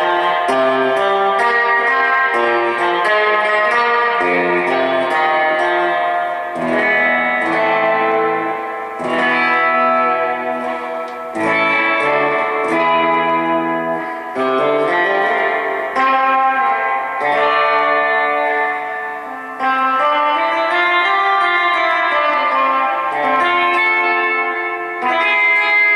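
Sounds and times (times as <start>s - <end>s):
electric guitar chords with reverb: 0.0s - 25.9s.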